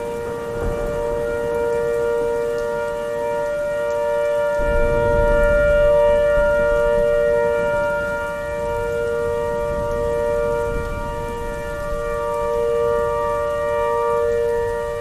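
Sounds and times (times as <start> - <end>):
electronic warning siren: 0.0 - 15.0.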